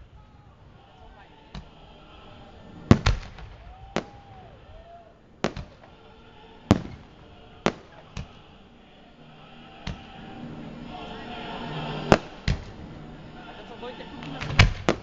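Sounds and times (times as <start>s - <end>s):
fireworks bangs: 0.0s - 8.7s, 9.7s - 15.0s.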